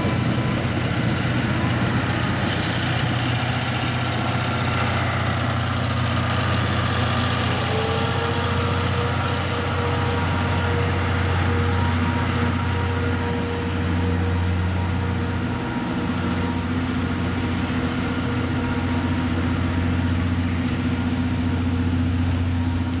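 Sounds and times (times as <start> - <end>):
train engine hum: 0.0 - 23.0.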